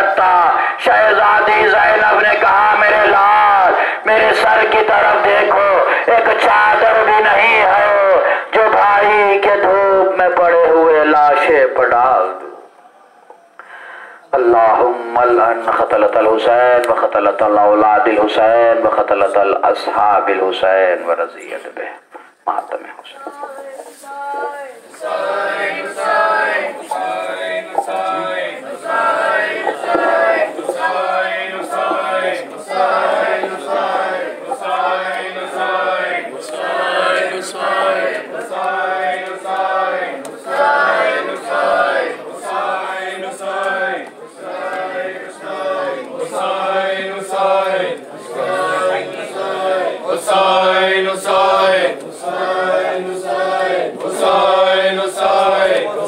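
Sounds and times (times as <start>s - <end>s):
crowd chanting a lament: 0.0s - 13.6s, 22.8s - 56.0s.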